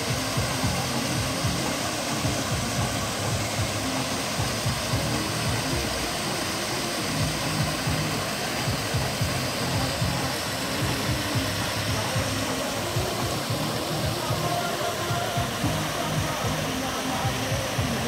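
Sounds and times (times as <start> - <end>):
music playing: 0.0 - 18.0
waterfall pouring: 0.0 - 18.0.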